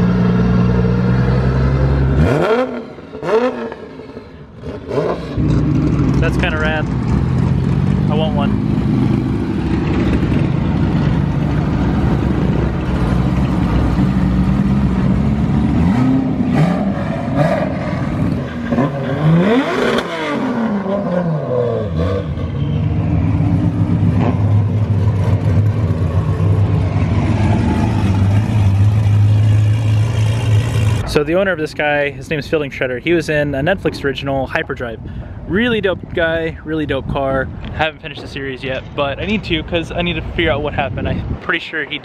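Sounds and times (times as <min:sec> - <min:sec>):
car engines passing: 0:00.0 - 0:42.0.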